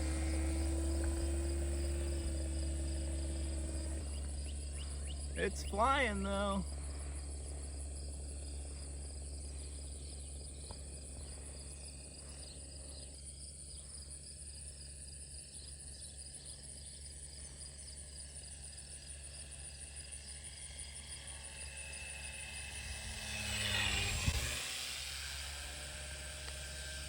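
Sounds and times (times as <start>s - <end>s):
insects chirping: 0.0s - 27.0s
model airplane motor whining: 0.0s - 27.0s.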